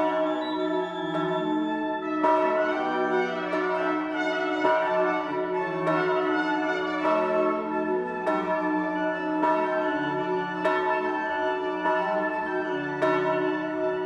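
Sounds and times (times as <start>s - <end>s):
church bell ringing: 0.0s - 14.0s.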